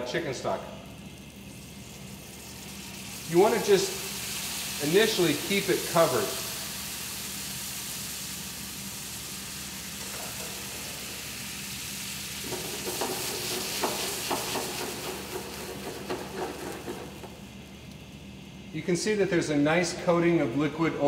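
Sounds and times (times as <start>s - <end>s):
stock sizzling in a skillet: 0.8s - 18.5s.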